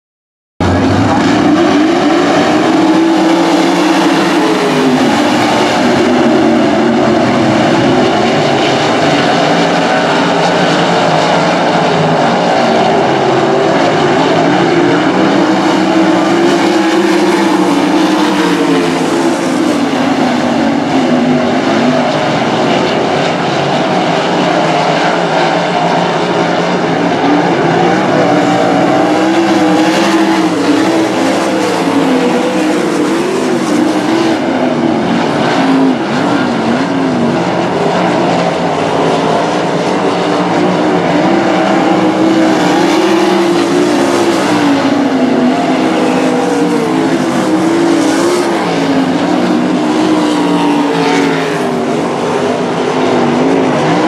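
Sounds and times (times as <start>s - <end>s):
race car engines blaring: 0.6s - 54.0s.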